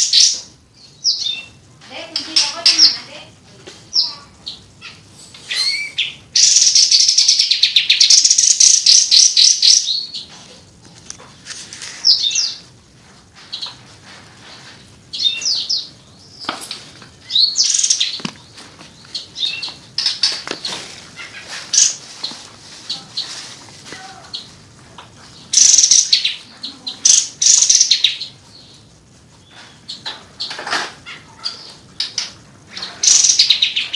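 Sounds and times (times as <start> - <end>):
songbird singing: 0.0 - 12.8, 13.4 - 33.9.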